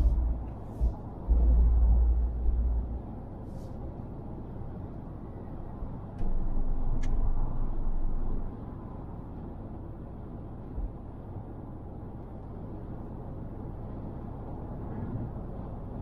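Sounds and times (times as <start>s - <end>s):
road and tyre noise: 0.0s - 16.0s.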